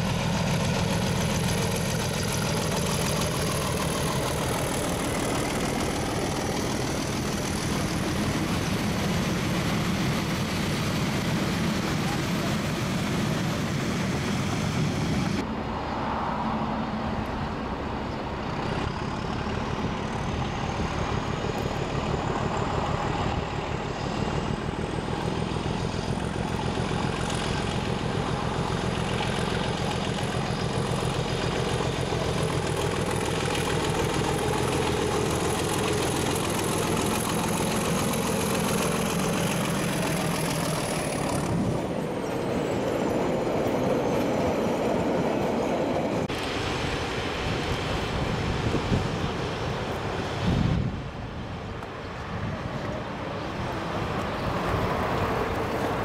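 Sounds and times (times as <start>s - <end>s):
diesel locomotive hauling train: 0.0s - 56.0s
high engine whine: 0.0s - 56.0s.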